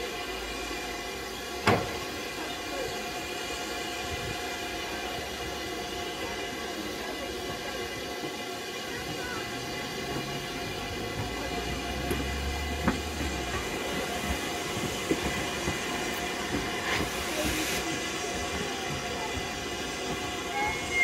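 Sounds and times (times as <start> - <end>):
steam hissing: 0.0 - 21.0.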